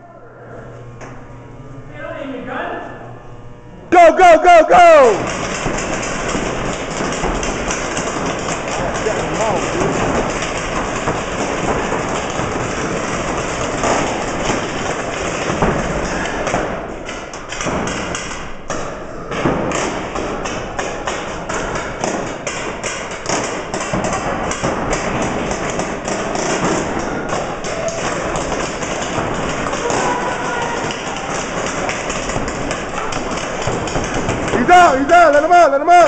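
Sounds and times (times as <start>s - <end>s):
paintball markers firing: 5.0s - 35.6s.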